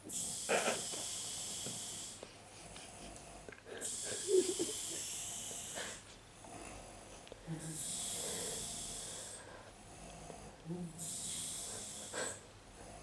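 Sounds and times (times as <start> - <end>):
woman snoring with hissing breaths: 0.0 - 13.0.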